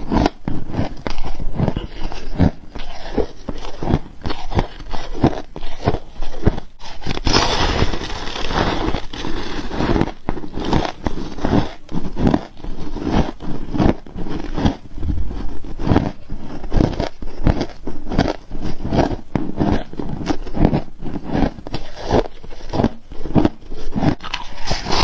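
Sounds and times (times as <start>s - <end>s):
ice being chewed and crunched: 0.0s - 25.0s.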